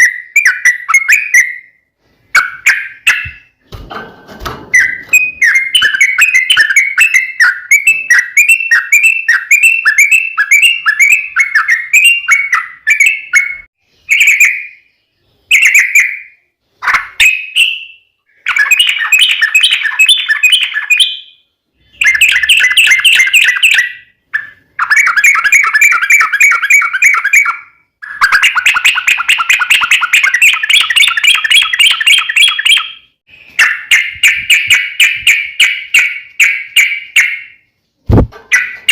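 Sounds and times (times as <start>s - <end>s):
bird chattering song: 0.0s - 1.8s, 2.4s - 3.6s, 4.7s - 38.9s.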